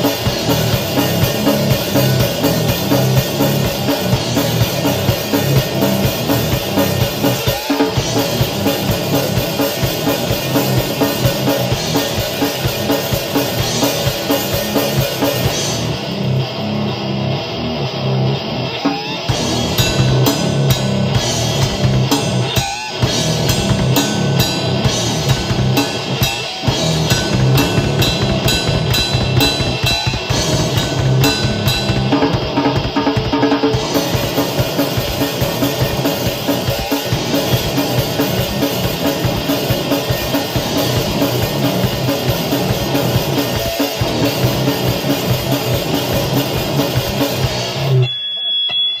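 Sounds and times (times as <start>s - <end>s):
fast drum kit hits: 0.0s - 16.5s, 18.8s - 48.0s
grindcore band playing: 0.0s - 49.0s.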